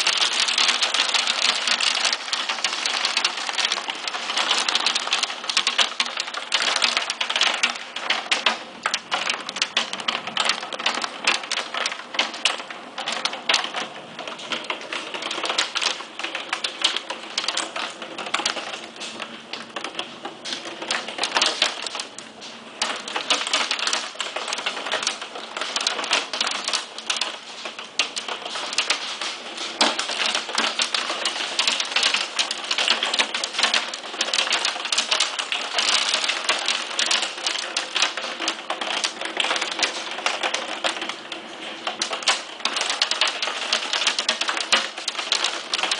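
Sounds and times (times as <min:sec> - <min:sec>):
hail rattling on hard surfaces: 0:00.0 - 0:45.9
rain: 0:00.0 - 0:45.9.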